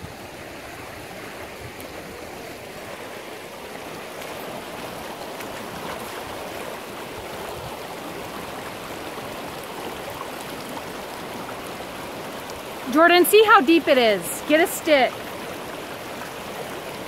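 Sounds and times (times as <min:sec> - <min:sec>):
creek rushing over gravel and rocks: 0:00.0 - 0:17.0.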